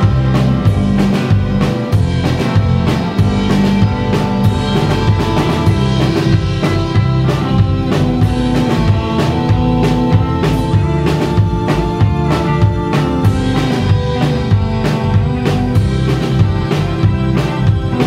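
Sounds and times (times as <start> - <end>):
drum kit beat: 0.0 - 18.0
live band playing: 0.0 - 18.0.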